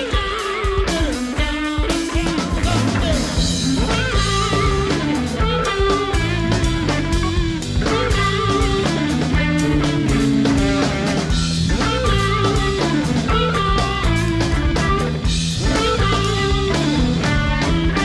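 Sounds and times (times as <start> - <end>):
jazz-rock band playing: 0.0 - 18.0.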